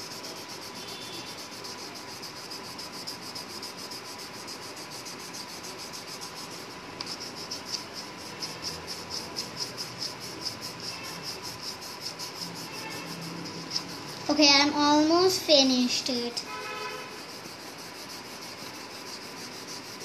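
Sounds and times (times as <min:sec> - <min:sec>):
coloured pencil scratching on paper: 0:00.0 - 0:20.0.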